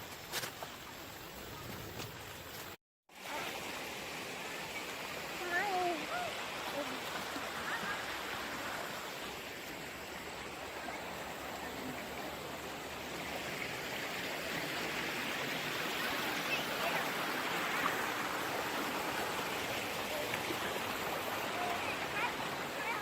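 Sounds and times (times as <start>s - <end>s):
creek water running over rocks: 0.0s - 23.0s.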